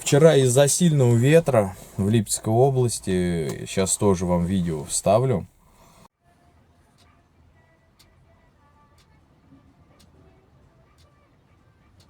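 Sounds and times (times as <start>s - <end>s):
faint steady tones: 0.0s - 12.0s.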